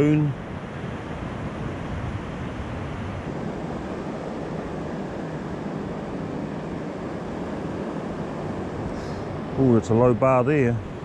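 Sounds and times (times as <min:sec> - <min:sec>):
surf breaking on beach: 0:00.0 - 0:11.0
wind rumbling on microphone: 0:00.0 - 0:11.0.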